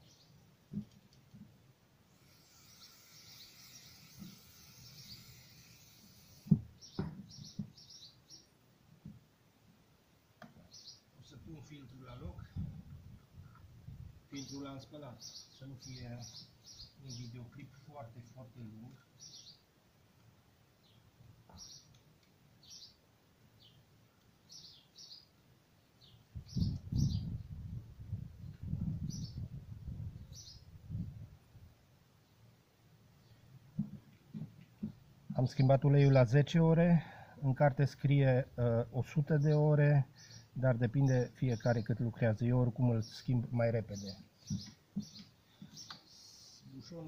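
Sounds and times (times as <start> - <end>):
small birds chirping: 0.0 - 0.9, 2.1 - 9.2, 10.4 - 12.7, 13.3 - 19.7, 20.7 - 31.1, 33.1 - 47.0.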